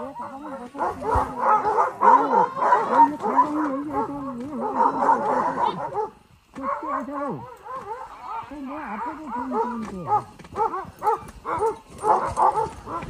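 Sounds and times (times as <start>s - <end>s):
sled dogs barking and howling: 0.0s - 13.0s.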